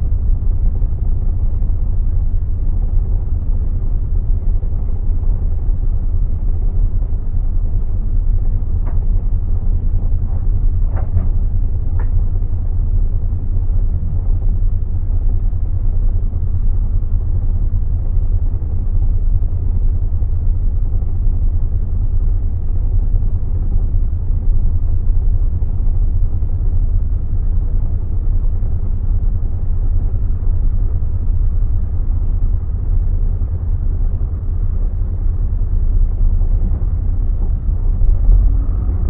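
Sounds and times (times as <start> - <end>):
bus engine and road rumble: 0.0 - 39.0.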